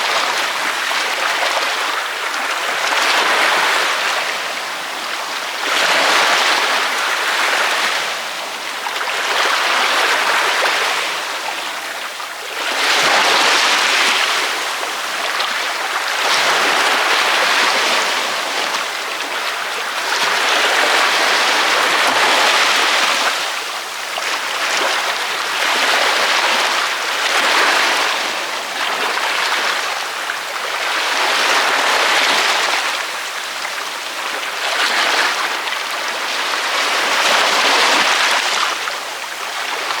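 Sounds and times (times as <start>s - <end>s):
ocean waves breaking on beach: 0.0s - 40.0s.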